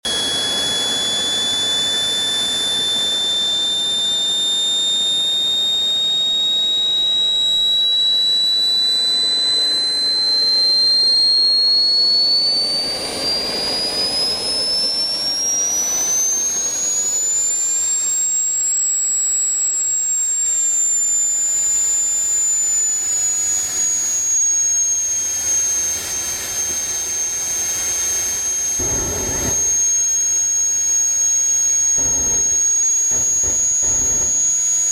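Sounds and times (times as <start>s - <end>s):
model jet turbine whine: 0.0s - 34.9s.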